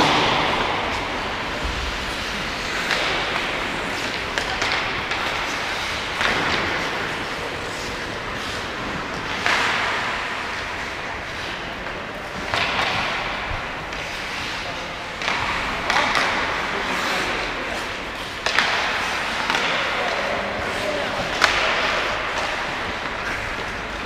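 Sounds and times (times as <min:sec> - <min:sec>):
pucks and sticks knocking: 0:00.0 - 0:24.0
sharp echoing puck hits: 0:00.0 - 0:24.0
skate blades scraping ice: 0:00.0 - 0:24.0.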